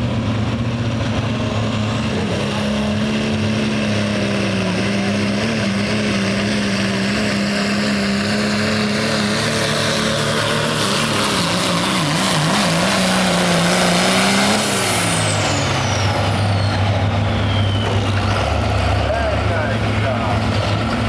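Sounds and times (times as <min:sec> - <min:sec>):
diesel engine at full throttle: 0:00.0 - 0:21.0.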